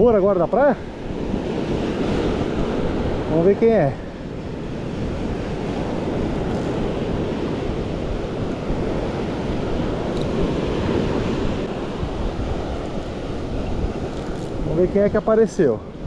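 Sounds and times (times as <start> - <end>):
ocean surf washing up: 0.0 - 16.0
wind buffeting microphone: 0.0 - 16.0.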